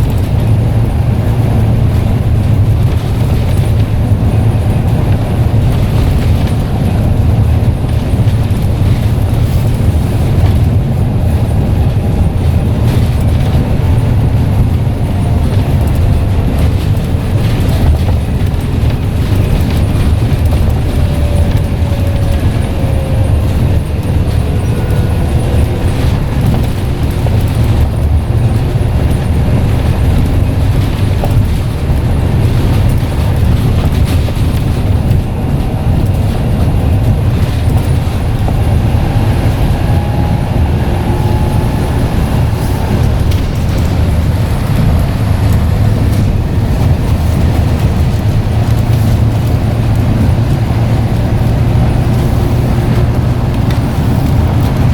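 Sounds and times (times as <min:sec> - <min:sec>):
bus engine low rumble: 0:00.0 - 0:54.9.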